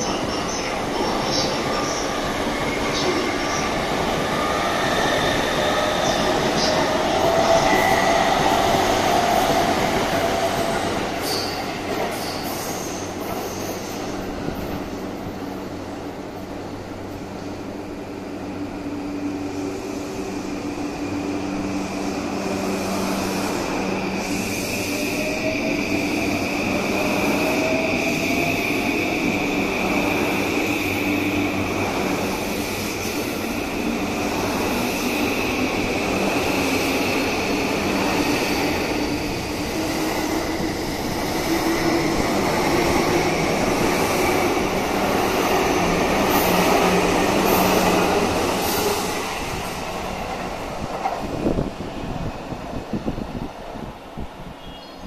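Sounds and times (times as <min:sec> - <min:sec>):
train cars rumbling: 0:00.0 - 0:53.9.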